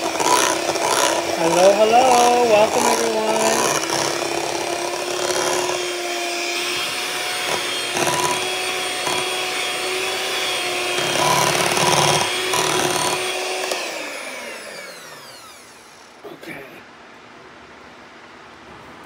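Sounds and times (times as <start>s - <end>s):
hand mixer motor whine: 0.0s - 16.2s.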